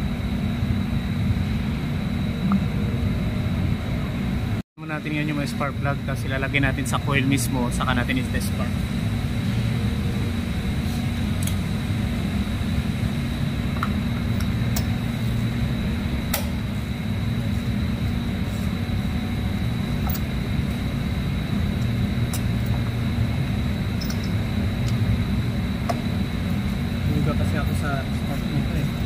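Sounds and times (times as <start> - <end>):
low machine hum: 0.0 - 29.0
thin high whine: 0.0 - 29.0.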